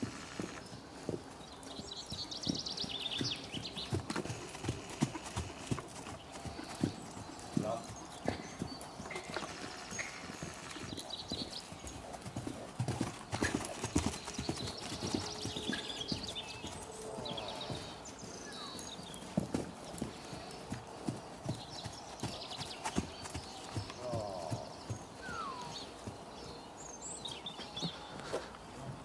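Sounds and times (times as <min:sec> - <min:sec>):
horse hoofbeats on sand: 0:00.0 - 0:26.6.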